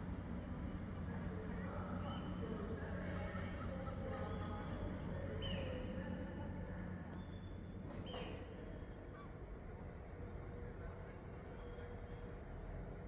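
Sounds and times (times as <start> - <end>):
low steady train hum: 0.0 - 13.0.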